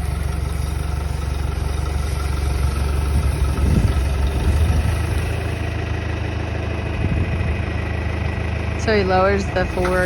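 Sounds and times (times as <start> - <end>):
tractor engine running at low revs: 0.0 - 10.0.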